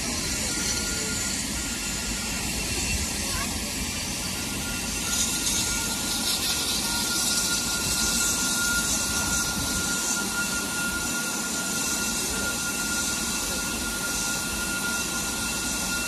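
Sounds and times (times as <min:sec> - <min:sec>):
steam hissing: 0:00.0 - 0:16.0
thin whistling tone: 0:00.0 - 0:16.0.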